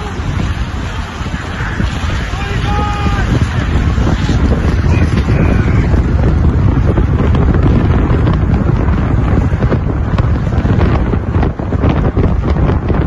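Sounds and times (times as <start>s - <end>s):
low rumble of vehicles: 0.0s - 13.0s
wind buffeting microphone: 0.0s - 13.0s.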